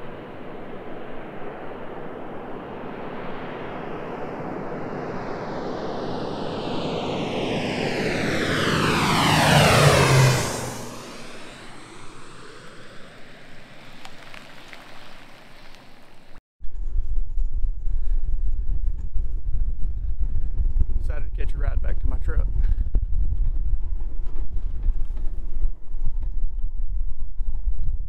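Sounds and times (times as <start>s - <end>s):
propeller airplane passing overhead: 0.0s - 28.0s.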